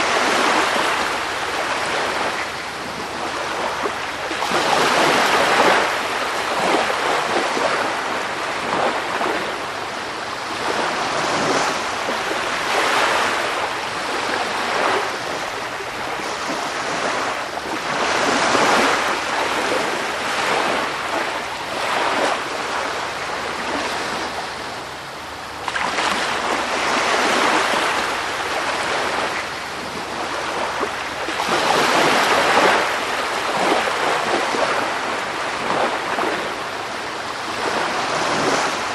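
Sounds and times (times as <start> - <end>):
sea surf waves breaking: 0.0 - 38.9.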